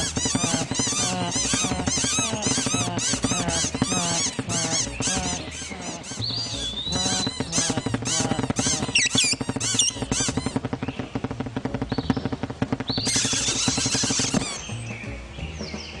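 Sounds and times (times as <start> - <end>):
cartoon birds chirping: 0.0 - 14.9.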